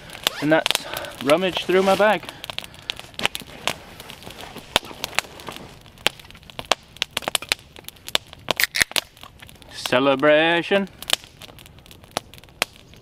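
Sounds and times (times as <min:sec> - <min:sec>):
campfire crackling: 0:00.0 - 0:13.0
sharp pops from fire: 0:00.0 - 0:13.0.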